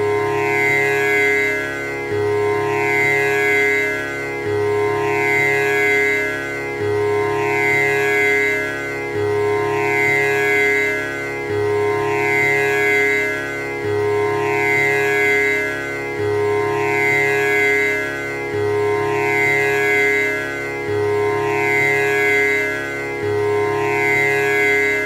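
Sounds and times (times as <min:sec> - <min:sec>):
tanpura drone: 0:00.0 - 0:25.0.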